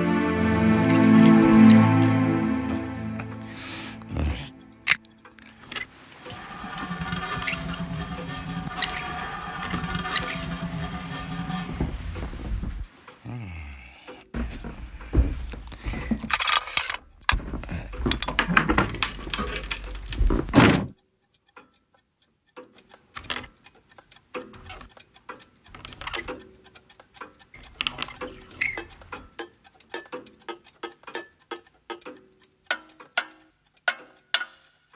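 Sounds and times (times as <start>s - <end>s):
clockwork ticking and clicking: 0.0s - 34.9s.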